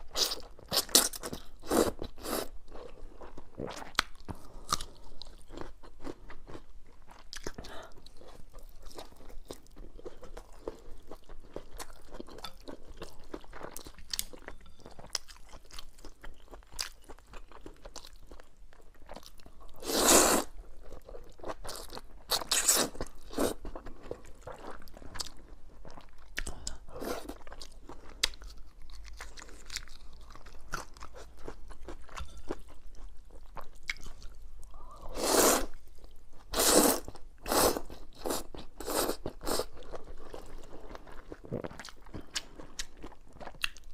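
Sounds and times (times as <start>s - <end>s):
chewing and crunching noodles: 0.0s - 43.9s.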